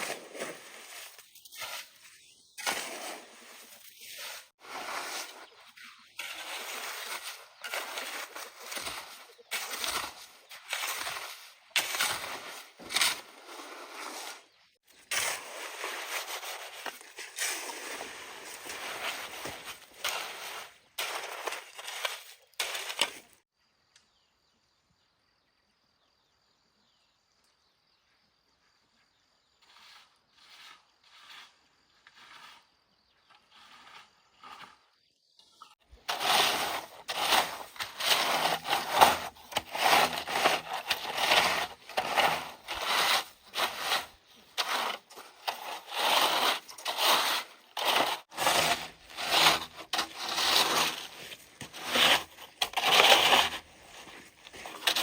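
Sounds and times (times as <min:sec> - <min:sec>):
scraping and rubbing strokes: 0:00.0 - 0:23.4, 0:29.6 - 0:55.0.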